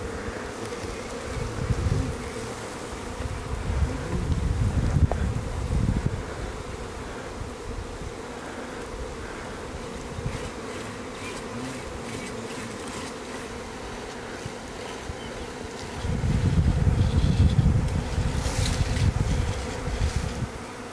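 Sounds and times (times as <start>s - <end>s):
bees buzzing: 0.0s - 20.9s.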